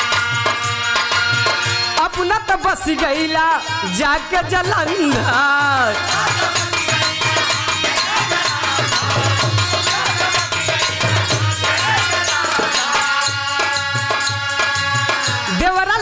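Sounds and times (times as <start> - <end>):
harmonium: 0.0 - 16.0
steady percussion beat: 0.0 - 16.0
singers singing together: 2.9 - 15.9.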